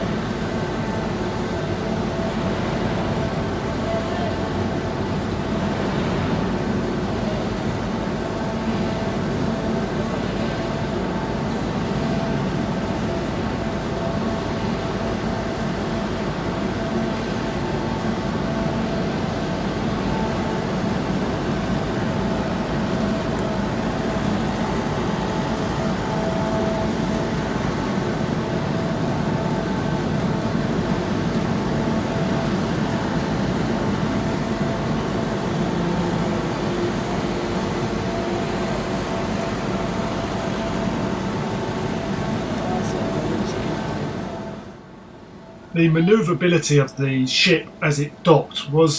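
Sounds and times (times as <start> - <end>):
faint steady hums: 0.0 - 48.9
ferry engines droning: 0.0 - 48.9.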